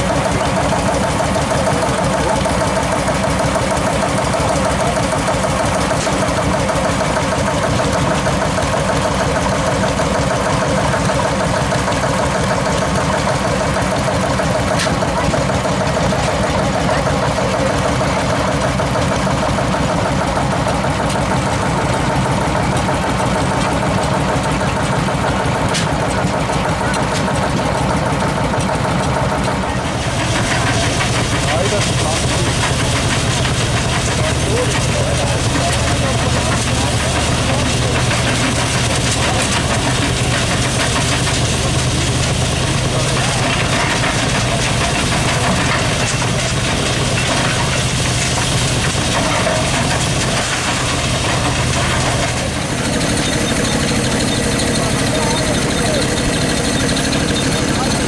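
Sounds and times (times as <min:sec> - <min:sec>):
stationary engines running: 0:00.0 - 0:58.0.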